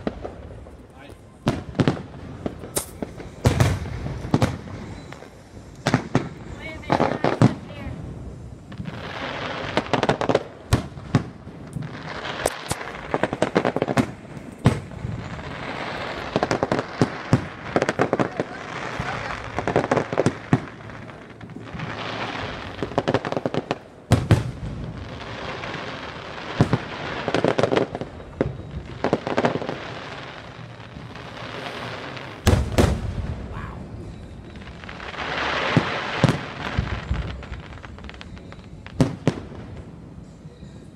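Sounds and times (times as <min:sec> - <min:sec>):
firework shells bursting: 0:01.5 - 0:07.7, 0:08.6 - 0:39.4.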